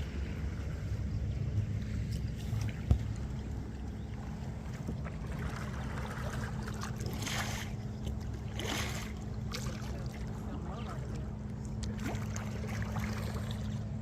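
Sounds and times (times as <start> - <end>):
kayak paddle swishing through water: 0.0 - 14.0
steady low hum: 0.0 - 14.0.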